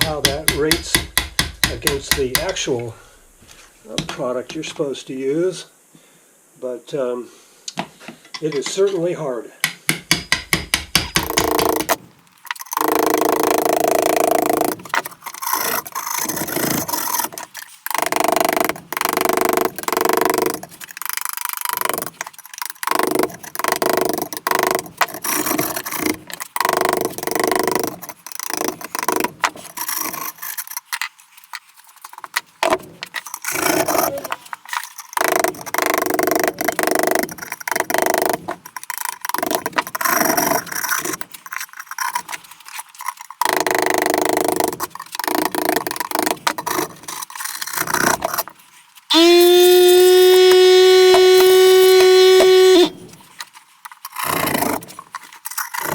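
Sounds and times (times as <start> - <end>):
metal tool scraping cement: 0.0 - 2.8, 10.5 - 55.9.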